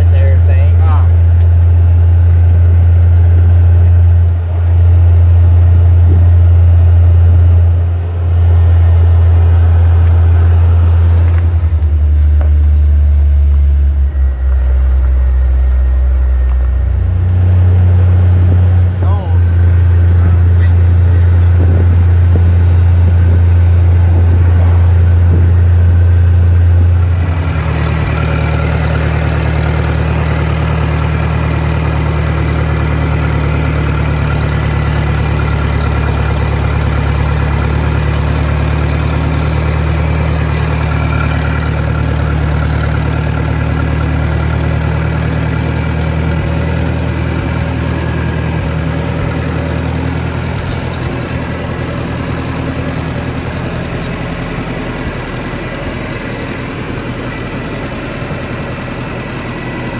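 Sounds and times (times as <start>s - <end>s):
tractor engine droning: 0.0s - 59.9s.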